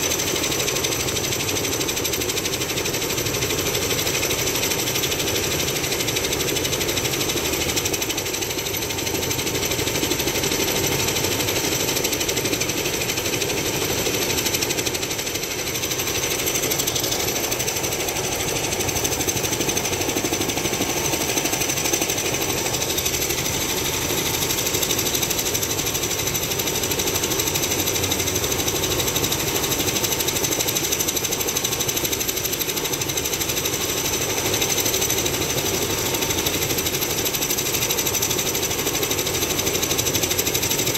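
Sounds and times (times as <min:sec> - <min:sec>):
helicopter rotor chop: 0:00.0 - 0:40.9.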